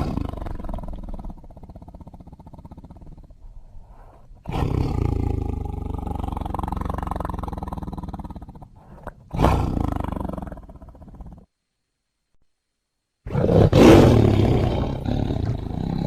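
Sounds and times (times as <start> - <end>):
tiger roaring: 0.0 - 11.5, 13.3 - 16.0.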